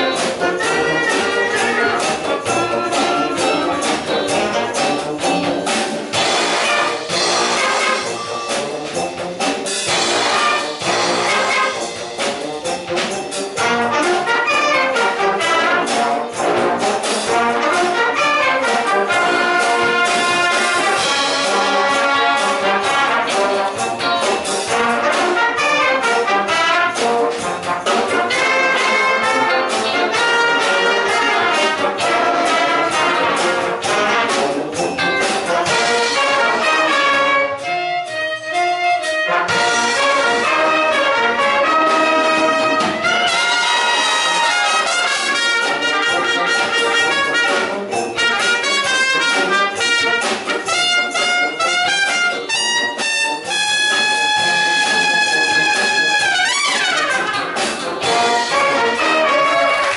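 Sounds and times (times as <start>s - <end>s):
percussion beat: 0.0s - 59.9s
wind band playing: 0.0s - 59.9s.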